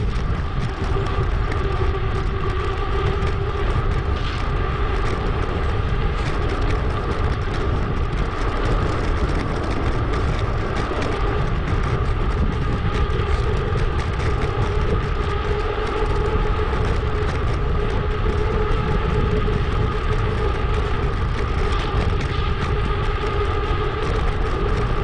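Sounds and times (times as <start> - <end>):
bicycle rolling noise: 0.0 - 25.0
faint steady hum: 0.0 - 25.0
wind rumble: 0.0 - 25.0.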